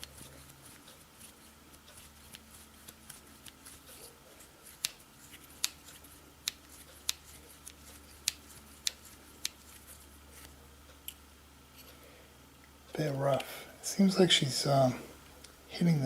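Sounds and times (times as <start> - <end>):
faint handling noise: 0.0 - 13.7.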